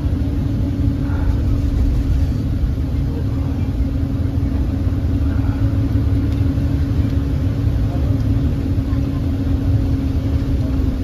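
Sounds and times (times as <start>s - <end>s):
faint constant hum: 0.0s - 11.0s
road noise: 0.0s - 11.0s
vehicle engine rumble: 0.0s - 11.0s.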